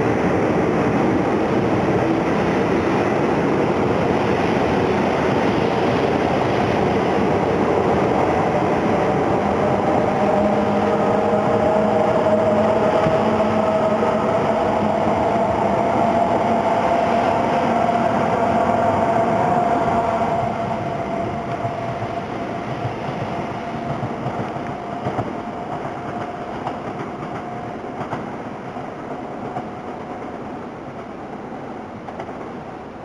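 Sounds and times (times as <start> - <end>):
rail noise: 0.0 - 33.0
train passing with high whine: 0.0 - 33.0.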